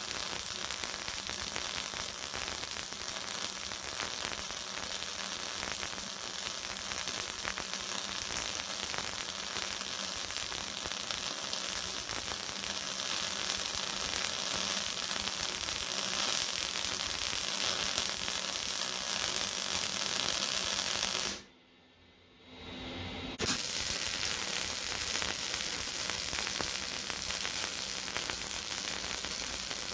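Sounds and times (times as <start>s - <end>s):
arc welding crackle: 0.0s - 21.5s, 23.4s - 29.9s.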